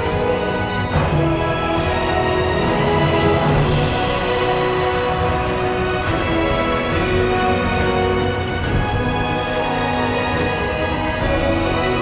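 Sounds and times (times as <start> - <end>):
sustained instrumental chords: 0.0 - 12.0.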